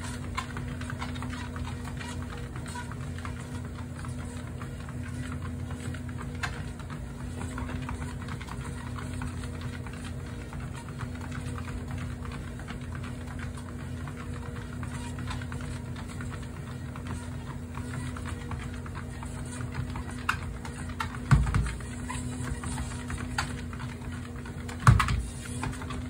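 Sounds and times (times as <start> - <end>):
dog paws clicking on belt: 0.0 - 26.0
treadmill motor hum: 0.0 - 26.0.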